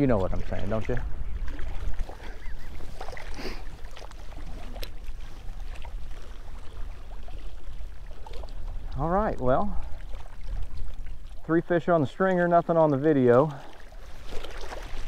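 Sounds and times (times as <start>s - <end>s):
water lapping against rocks: 0.0s - 15.0s.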